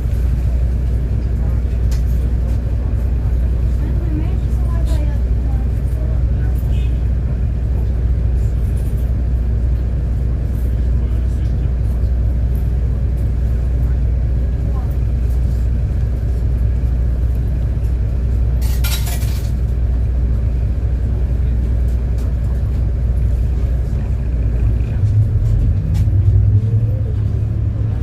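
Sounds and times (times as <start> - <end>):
bus engine rumble: 0.0 - 28.0.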